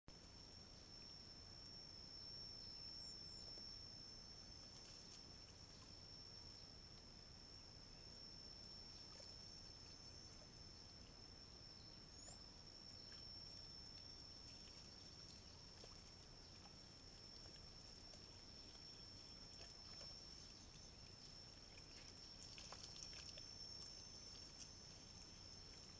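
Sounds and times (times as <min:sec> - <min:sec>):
faint outdoor ambience: 0:00.1 - 0:25.9
steady high-pitched whine: 0:00.1 - 0:25.9
faint chirps: 0:00.2 - 0:25.9.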